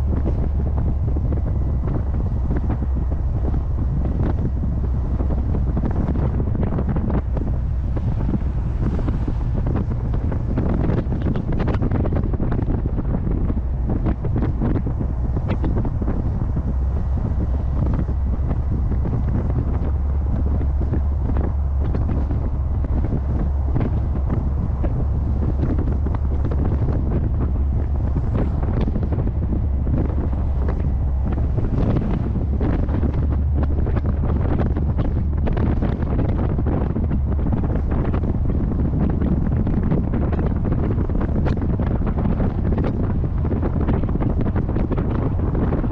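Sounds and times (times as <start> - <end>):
car rumble: 0.0 - 45.9
wind buffeting microphone: 0.0 - 45.9.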